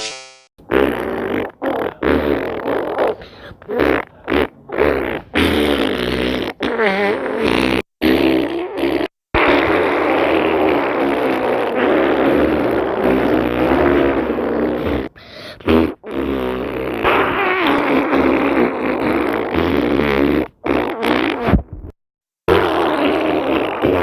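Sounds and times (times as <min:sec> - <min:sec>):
farting sound effect: 0:00.6 - 0:24.0.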